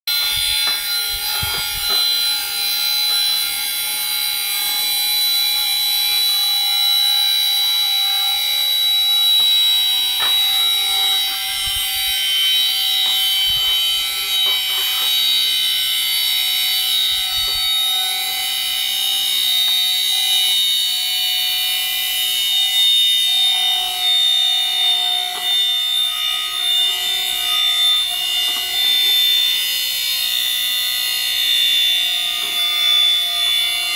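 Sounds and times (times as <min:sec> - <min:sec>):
gyroscope high-pitched whine: 0:00.1 - 0:33.9.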